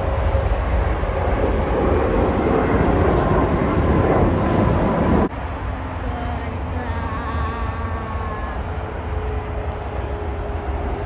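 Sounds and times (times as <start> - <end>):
highway traffic: 0.0 - 11.0
jet engines rumbling: 0.0 - 11.0.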